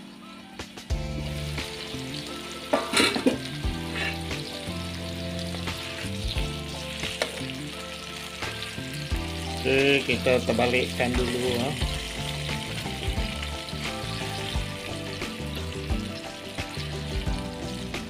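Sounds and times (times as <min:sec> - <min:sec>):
background music: 0:00.0 - 0:18.0
pork frying in fat: 0:00.0 - 0:18.0.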